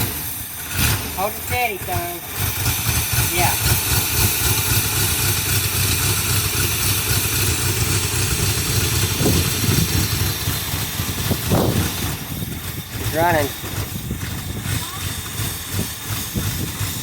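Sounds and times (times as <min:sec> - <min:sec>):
car engine fast idle: 0:00.0 - 0:17.0.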